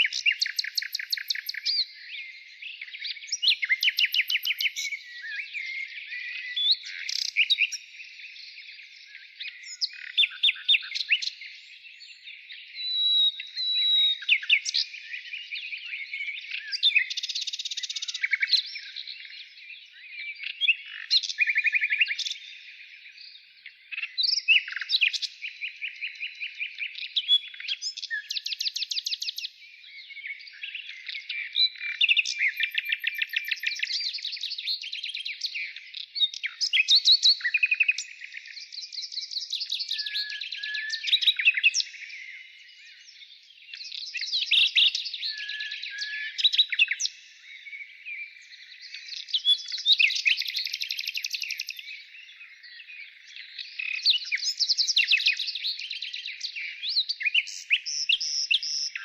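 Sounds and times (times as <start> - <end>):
birds singing trilled notes: 0.0 - 59.0.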